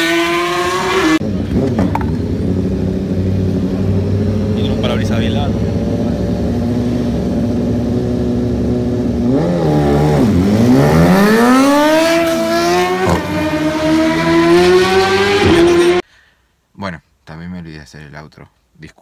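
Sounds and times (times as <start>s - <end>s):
drag racing engine accelerating: 0.0s - 16.0s.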